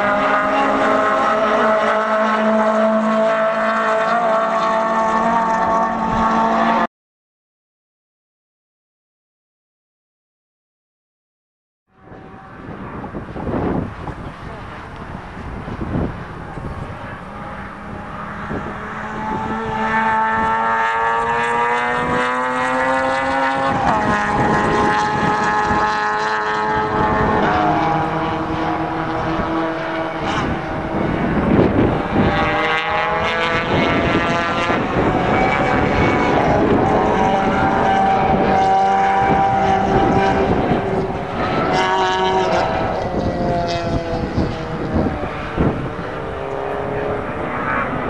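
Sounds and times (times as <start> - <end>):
racing car engines at high revs: 0.0 - 6.9, 12.0 - 48.0.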